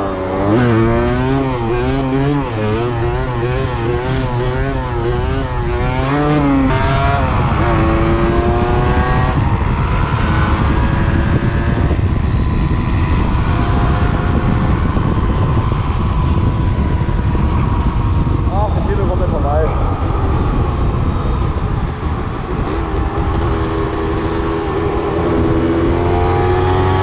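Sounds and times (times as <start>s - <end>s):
motorcycle engine revving: 0.0s - 27.0s
wind rumble: 0.0s - 27.0s.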